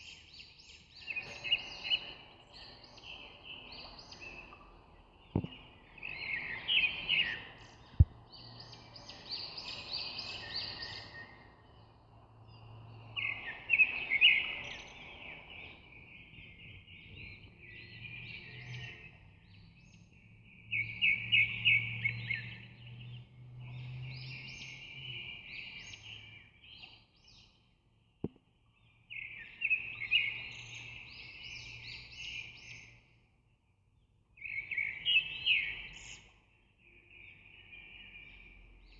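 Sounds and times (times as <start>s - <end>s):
birds chirping: 0.0s - 33.5s.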